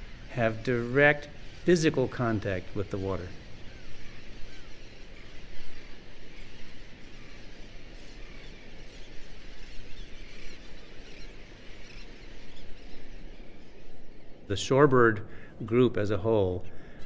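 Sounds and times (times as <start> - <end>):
high bird calls: 0.0 - 17.0.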